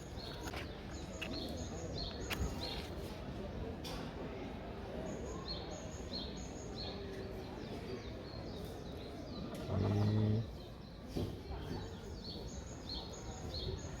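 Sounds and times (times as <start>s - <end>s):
small birds chirping: 0.0s - 3.6s, 5.1s - 14.0s
outdoor background noise: 0.0s - 14.0s.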